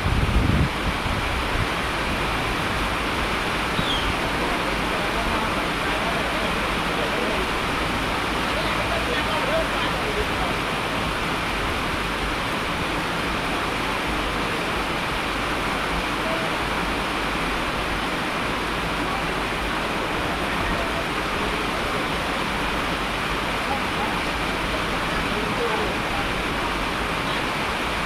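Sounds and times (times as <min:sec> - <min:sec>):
falling water rushing: 0:00.0 - 0:28.0.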